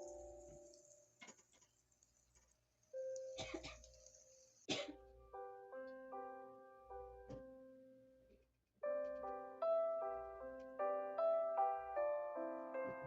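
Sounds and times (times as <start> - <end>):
soft piano music: 0.0 - 1.2, 3.0 - 13.0.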